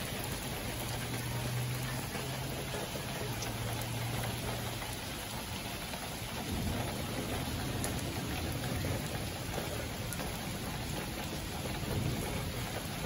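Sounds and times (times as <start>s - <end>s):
rain hissing: 0.0s - 13.0s
thunder rumbling: 0.0s - 13.0s.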